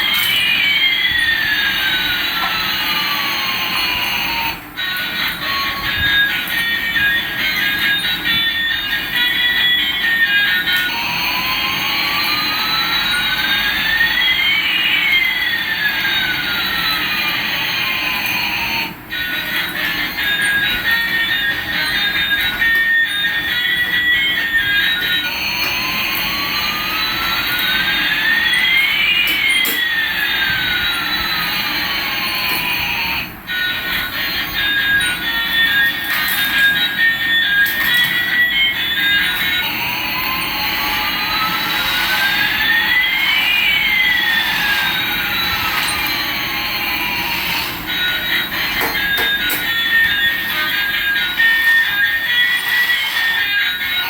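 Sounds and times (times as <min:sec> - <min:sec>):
whining jet tones: 0:00.0 - 0:54.0.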